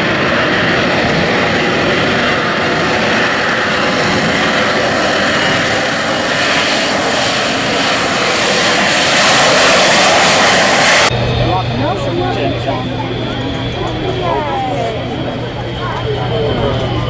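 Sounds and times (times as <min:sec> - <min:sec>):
aircraft engines running loud: 0:00.0 - 0:17.0.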